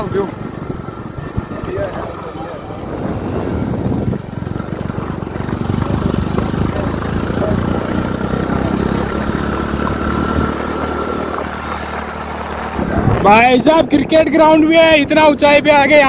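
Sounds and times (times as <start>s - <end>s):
motorcycle engine running: 0.0s - 16.0s
wind and road rumble: 0.0s - 16.0s.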